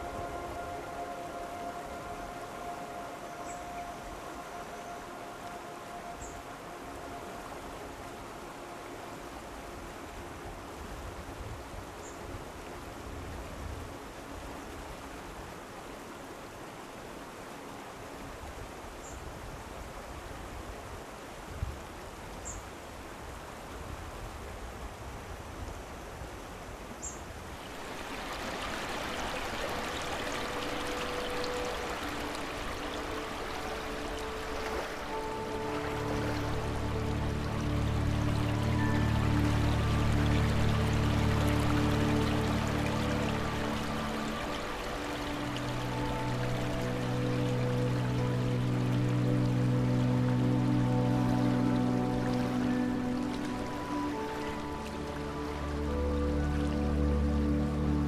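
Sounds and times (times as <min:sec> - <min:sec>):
soft sustained music notes: 0:00.0 - 0:19.5, 0:27.5 - 0:58.0
rushing stream: 0:00.0 - 0:58.0.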